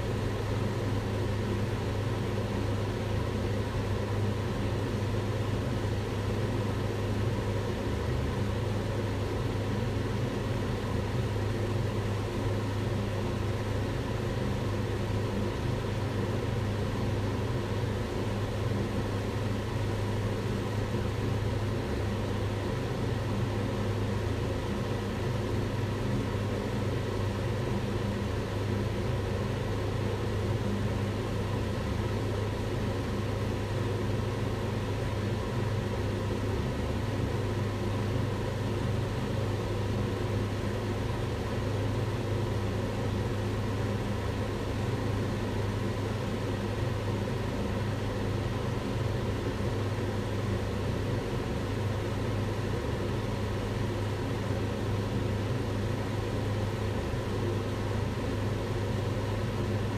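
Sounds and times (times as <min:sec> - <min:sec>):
range hood fan rushing air: 0:00.0 - 0:59.9.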